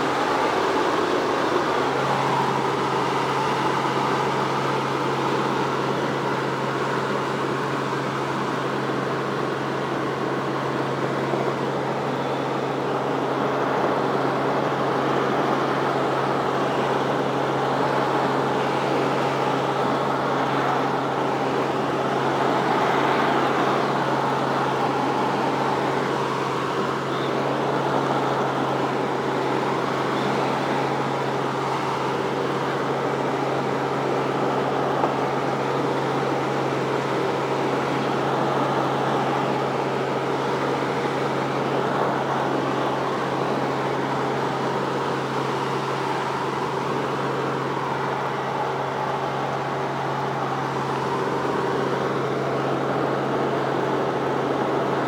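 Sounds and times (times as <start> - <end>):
helicopter engine and rotor noise: 0.0 - 55.0.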